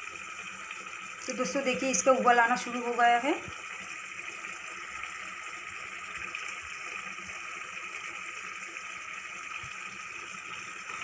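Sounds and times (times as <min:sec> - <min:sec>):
curry simmering hiss: 0:00.0 - 0:11.0.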